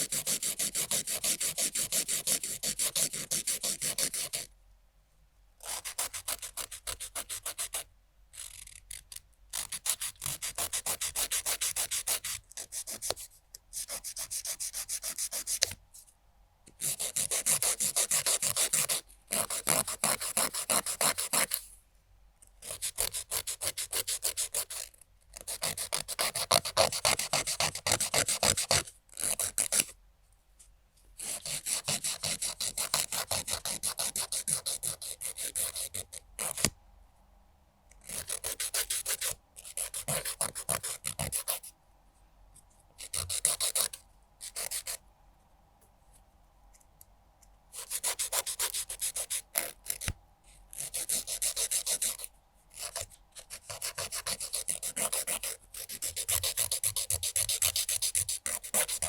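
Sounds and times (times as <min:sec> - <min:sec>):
nail file rasping on fingernail: 0:00.0 - 0:04.5, 0:05.6 - 0:15.8, 0:16.8 - 0:21.6, 0:22.6 - 0:29.9, 0:31.2 - 0:36.7, 0:38.0 - 0:41.7, 0:43.0 - 0:45.0, 0:47.7 - 0:59.0.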